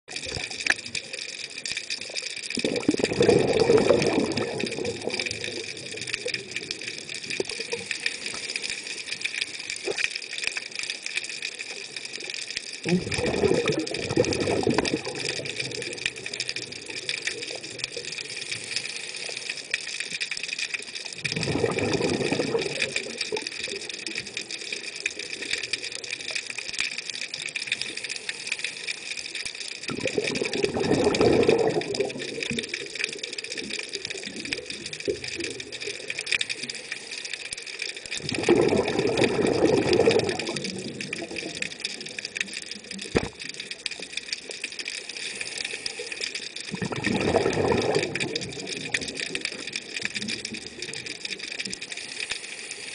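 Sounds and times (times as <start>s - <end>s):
underwater bubbles rushing: 0.1s - 52.3s.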